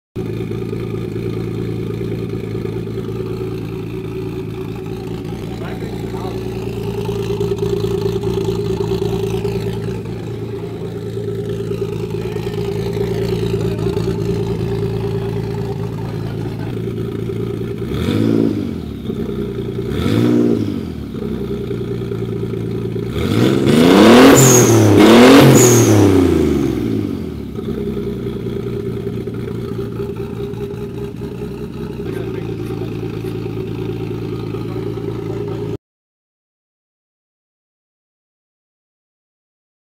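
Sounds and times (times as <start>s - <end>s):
car engine idling and revving: 0.2s - 35.8s.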